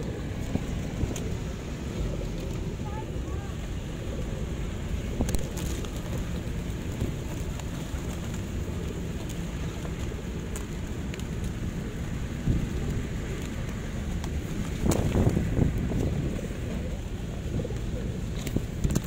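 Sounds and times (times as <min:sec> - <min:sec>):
beaks pecking pavement: 0:00.0 - 0:19.0
pigeon wings fluttering: 0:00.0 - 0:19.0
steady low rumble: 0:00.0 - 0:19.0.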